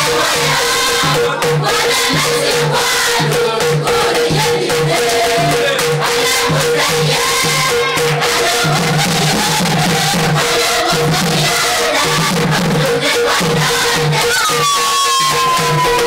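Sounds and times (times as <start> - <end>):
women's choir singing: 0.0 - 16.0.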